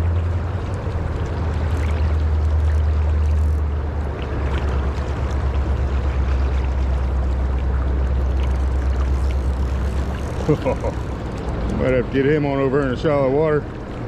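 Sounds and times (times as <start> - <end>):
river water rushing: 0.0 - 14.0
steady low rumble: 0.0 - 14.0.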